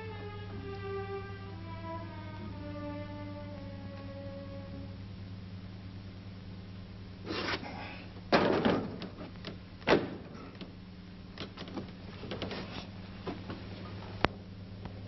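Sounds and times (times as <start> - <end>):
low mains hum: 0.0 - 15.0.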